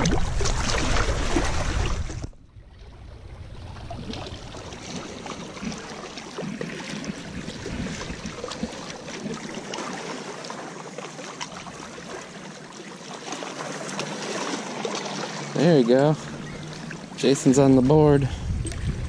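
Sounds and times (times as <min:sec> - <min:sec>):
lake waves lapping on rocks: 0:00.0 - 0:19.0.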